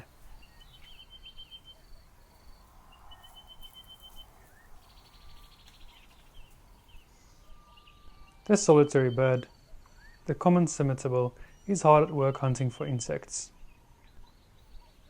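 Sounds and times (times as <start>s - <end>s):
bird trilling: 0.0s - 13.0s.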